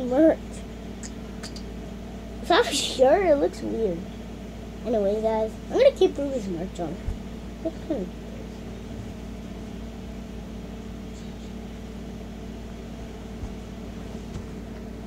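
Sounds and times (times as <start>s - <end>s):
steady low tonal hum: 0.0s - 15.0s.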